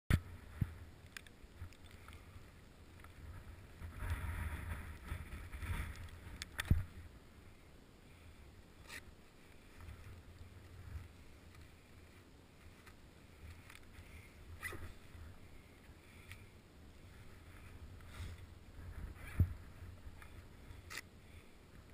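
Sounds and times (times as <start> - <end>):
ski clothing rustling: 0.2 - 7.2, 8.1 - 21.9.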